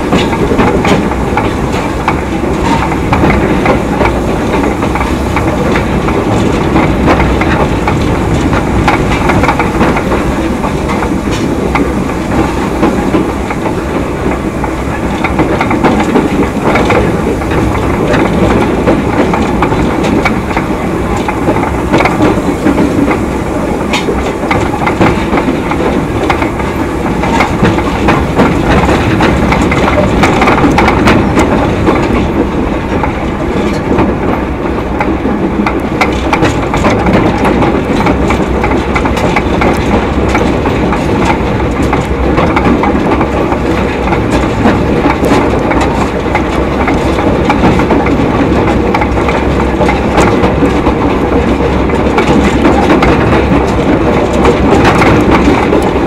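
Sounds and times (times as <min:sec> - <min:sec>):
clicks from rail joints: 0:00.0 - 0:56.0
train wheels rumbling on rails: 0:00.0 - 0:56.0.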